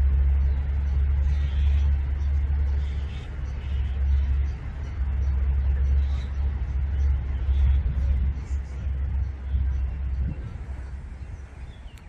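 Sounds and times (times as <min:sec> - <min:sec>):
steady low rumble: 0:00.0 - 0:12.0
faint voices: 0:00.2 - 0:12.0.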